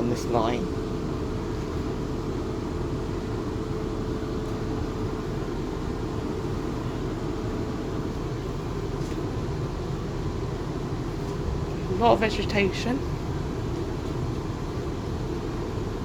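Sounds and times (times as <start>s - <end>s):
steady train hum: 0.0s - 16.0s.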